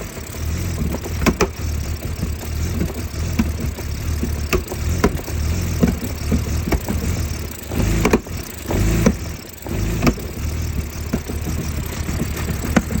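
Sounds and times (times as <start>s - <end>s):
car engine idling roughly: 0.0s - 13.0s
sharp engine pops: 0.0s - 13.0s.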